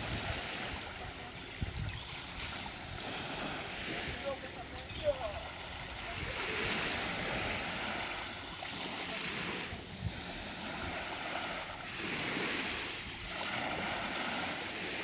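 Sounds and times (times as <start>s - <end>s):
wind rumble on microphone: 0.0s - 8.3s, 9.2s - 15.0s
small waves washing on sand: 0.0s - 15.0s.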